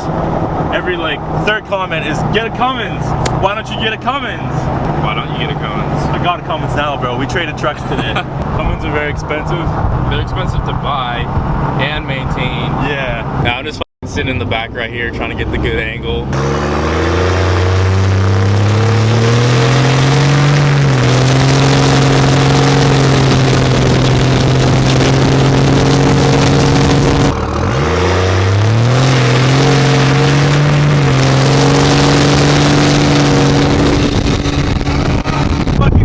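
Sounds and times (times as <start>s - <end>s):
diesel pickup engine under load: 0.0s - 36.0s.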